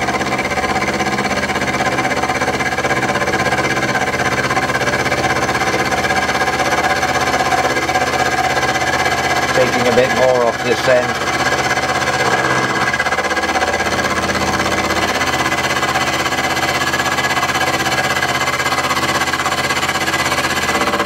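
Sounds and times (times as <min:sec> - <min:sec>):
metal cutting noise: 0:00.0 - 0:21.0
milling machine running: 0:00.0 - 0:21.0.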